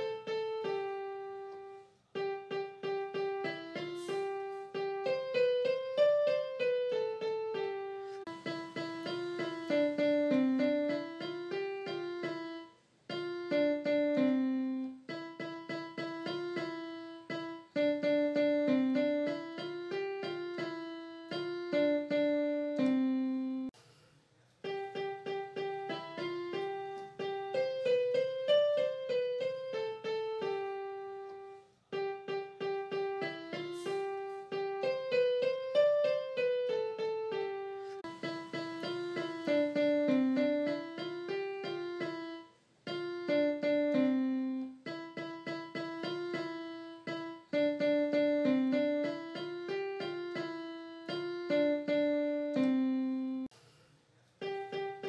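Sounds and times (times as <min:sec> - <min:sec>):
piano melody: 0:00.0 - 0:23.8, 0:24.6 - 0:53.5, 0:54.4 - 0:55.0.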